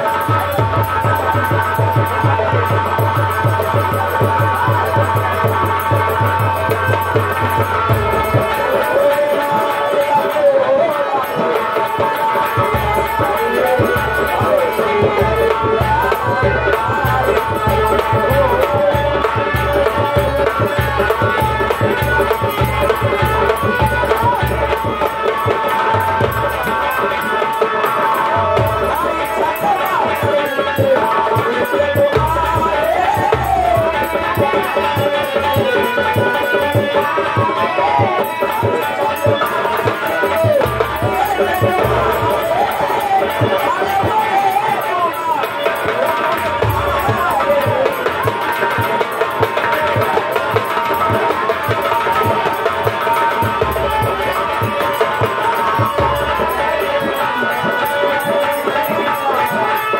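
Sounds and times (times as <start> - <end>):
person singing devotional song: 0.0 - 59.9
pulsing drum accompaniment: 0.0 - 59.9.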